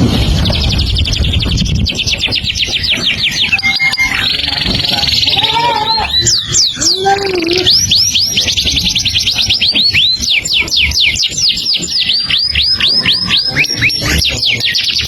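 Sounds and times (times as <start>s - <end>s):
songbird whistling rapidly: 0.3s - 15.0s.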